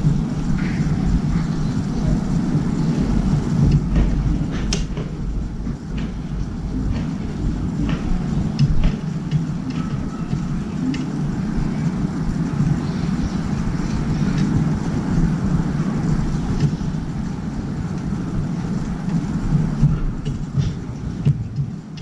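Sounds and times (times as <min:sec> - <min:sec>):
low city rumble: 0:00.0 - 0:22.0.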